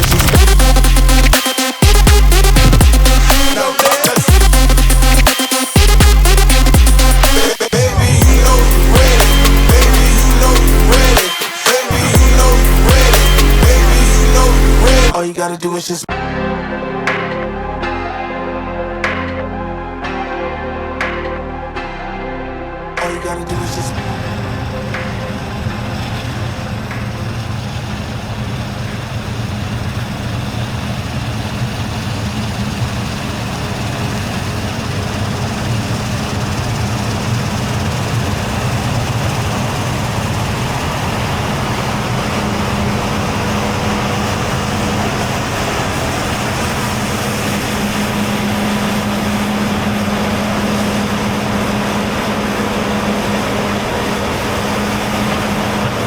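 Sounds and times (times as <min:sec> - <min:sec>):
diesel machinery running: 0:00.0 - 0:56.0.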